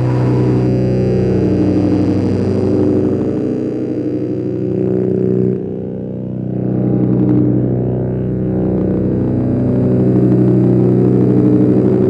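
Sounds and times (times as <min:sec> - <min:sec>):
distorted drone synth chord: 0:00.0 - 0:12.0.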